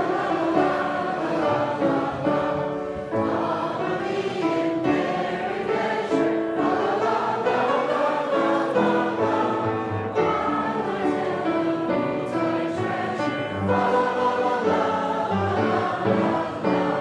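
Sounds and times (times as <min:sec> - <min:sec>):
group singing a carol: 0:00.0 - 0:17.0
piano accompaniment: 0:00.0 - 0:17.0.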